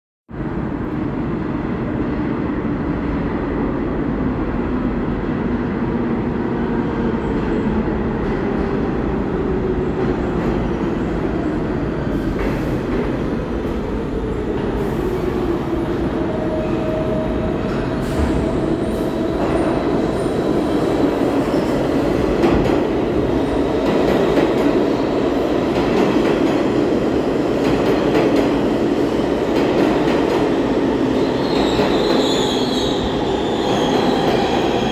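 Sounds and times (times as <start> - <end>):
subway train rumble: 0.3 - 34.9.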